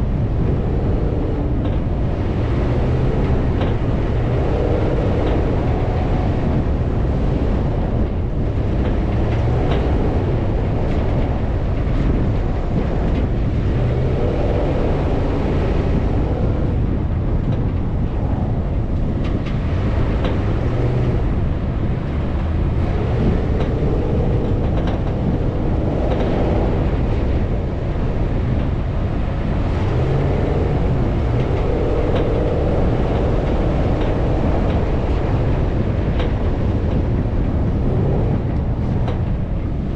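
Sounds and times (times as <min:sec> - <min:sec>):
off-road vehicle engine rumbling: 0:00.0 - 0:39.9.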